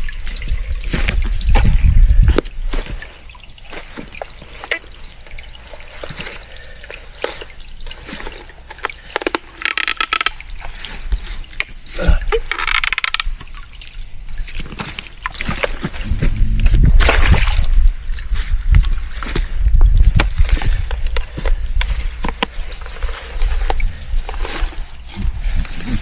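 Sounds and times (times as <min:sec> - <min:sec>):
loud splashing or scraping: 0:00.0 - 0:26.0
stream of water trickling: 0:00.0 - 0:26.0.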